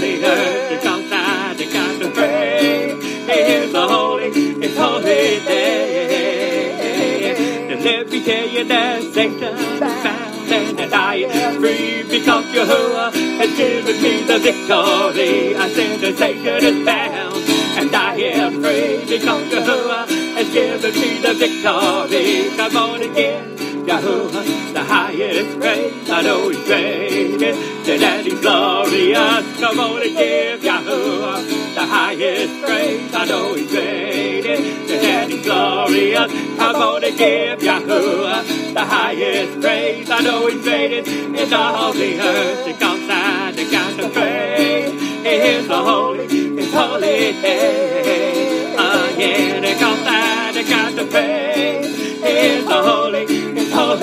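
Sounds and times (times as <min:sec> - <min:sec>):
gospel praise music: 0:00.0 - 0:54.0.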